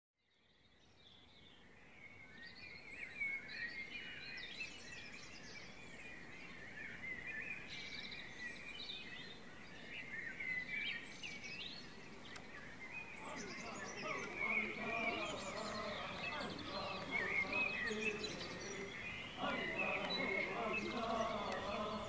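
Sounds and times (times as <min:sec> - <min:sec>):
songbirds chirping and trilling: 0:00.2 - 0:22.0.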